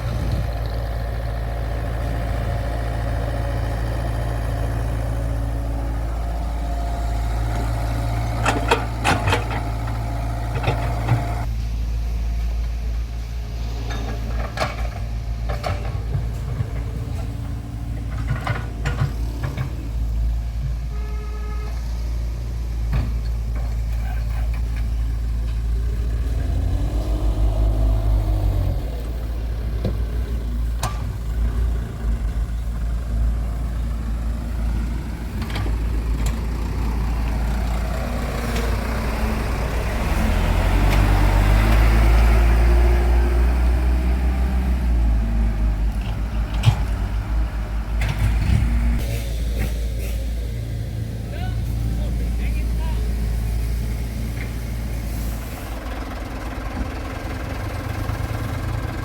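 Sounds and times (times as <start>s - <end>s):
dump truck engines running: 0.0s - 59.0s.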